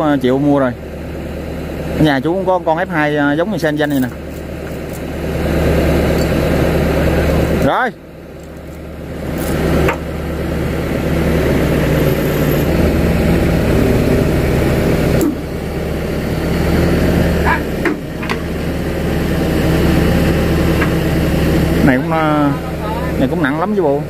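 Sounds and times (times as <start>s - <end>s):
excavator diesel engine under load: 0.0s - 24.0s.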